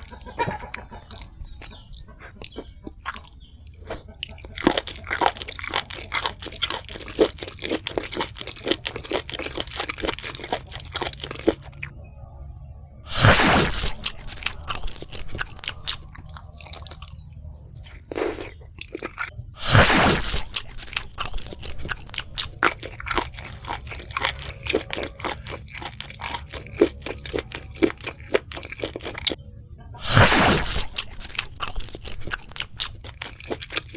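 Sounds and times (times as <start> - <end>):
crunching and chewing food: 0.0 - 33.9.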